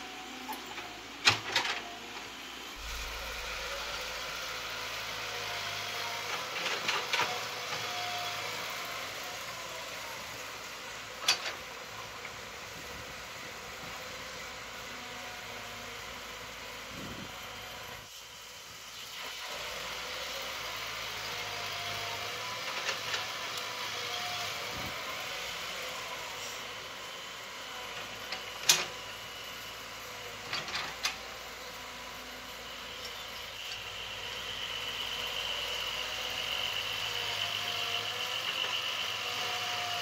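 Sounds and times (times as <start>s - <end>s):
excavator diesel engine running: 0.0s - 18.0s, 19.6s - 40.0s.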